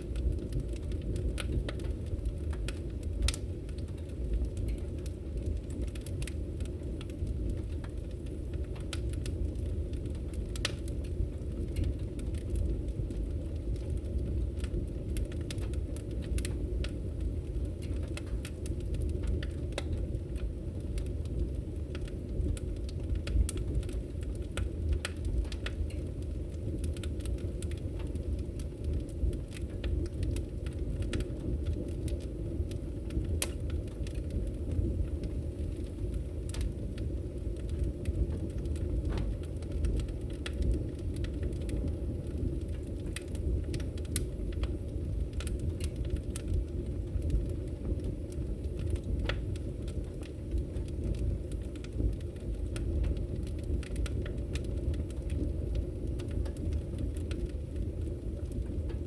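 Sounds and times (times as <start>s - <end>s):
campfire rumble: 0.0s - 59.0s
fire crackles and pops: 0.0s - 59.0s.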